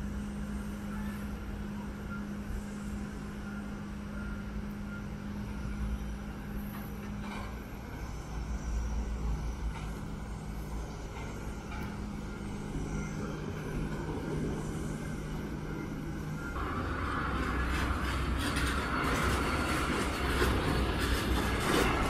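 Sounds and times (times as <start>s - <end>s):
aircraft engine hum: 0.0s - 22.0s.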